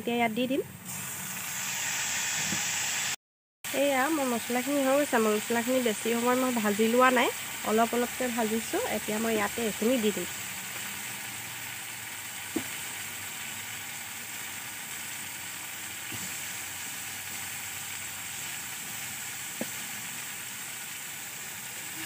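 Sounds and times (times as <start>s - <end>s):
masala sizzling in oil: 0.0s - 22.0s.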